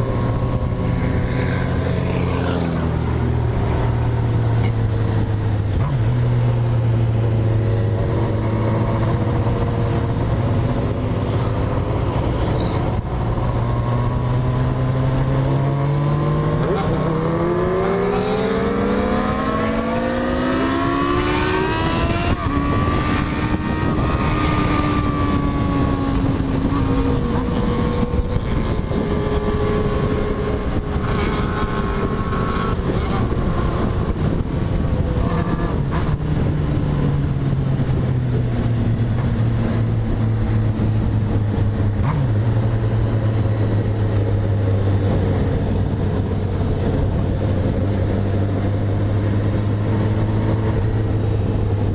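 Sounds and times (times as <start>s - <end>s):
motorcycle engine revving: 0.0s - 51.9s
wind and road noise: 0.0s - 51.9s.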